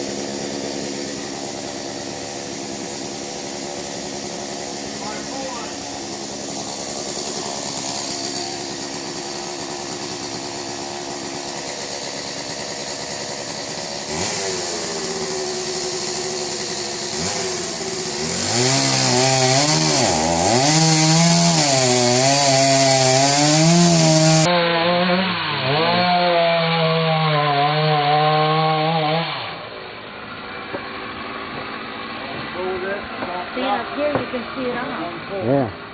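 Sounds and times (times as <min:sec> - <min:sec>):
chainsaw revving and cutting: 0:00.0 - 0:29.7.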